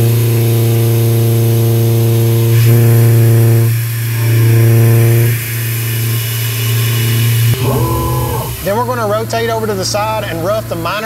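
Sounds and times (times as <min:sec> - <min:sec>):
milling machine cutting hum: 0:00.0 - 0:10.0.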